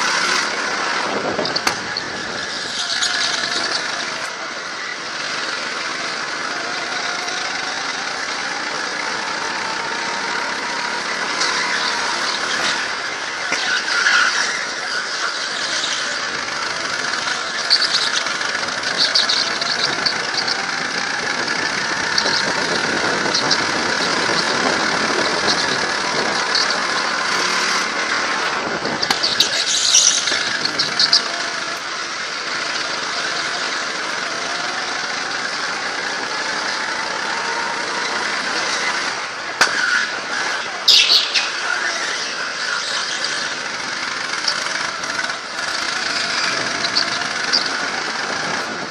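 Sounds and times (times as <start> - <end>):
go-kart engine revving: 0.0 - 48.9
tyres squealing: 0.0 - 48.9.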